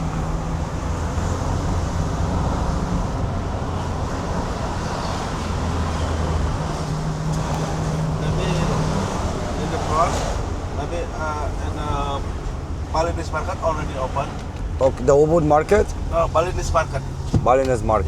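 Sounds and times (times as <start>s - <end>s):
road and tyre noise: 0.0s - 18.0s
vehicle engine hum: 0.0s - 18.0s.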